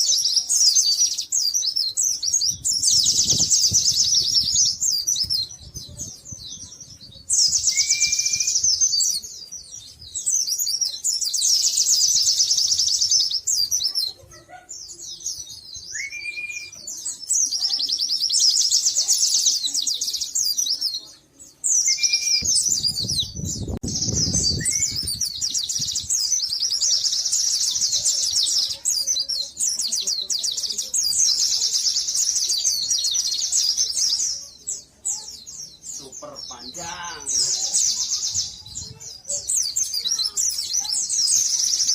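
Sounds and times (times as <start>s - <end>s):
high-pitched bird twittering: 0.0s - 41.9s.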